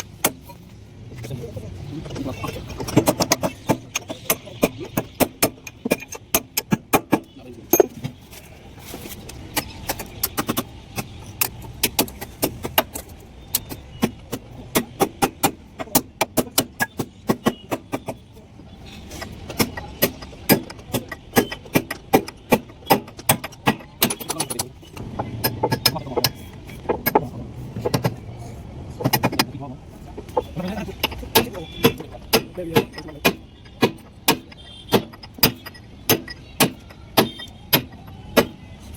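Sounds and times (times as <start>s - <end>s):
tools clicking and knocking on metal: 0.0s - 8.5s, 9.1s - 38.9s.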